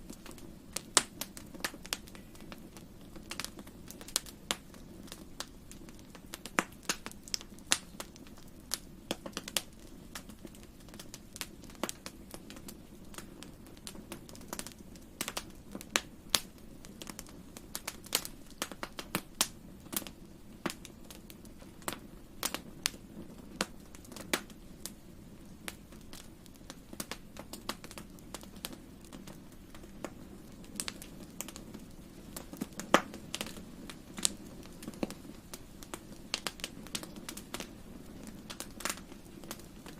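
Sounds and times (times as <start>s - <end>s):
fire crackling and popping: 0.0s - 39.9s
low rumble of burning: 0.0s - 39.9s.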